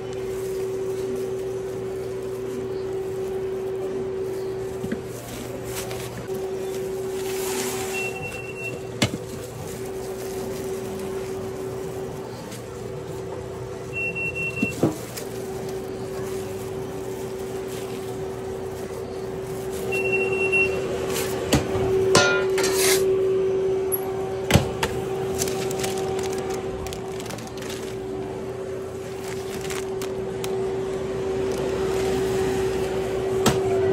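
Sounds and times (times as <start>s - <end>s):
appliance hum: 0.0s - 33.9s.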